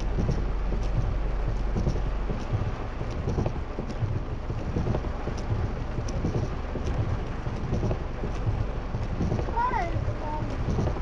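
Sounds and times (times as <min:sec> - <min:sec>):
low rumble of moving car: 0:00.0 - 0:11.0
low thumps: 0:00.0 - 0:11.0
rain on car roof: 0:00.0 - 0:11.0.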